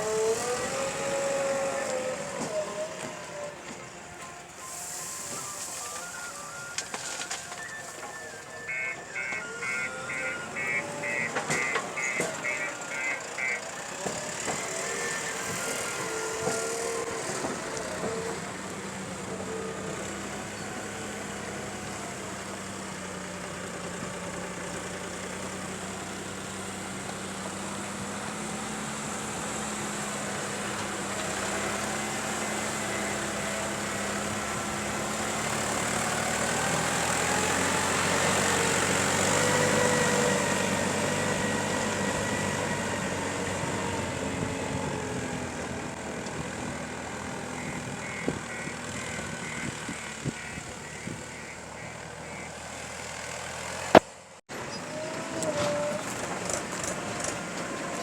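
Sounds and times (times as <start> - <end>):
diesel engine running and revving: 0.0 - 58.0.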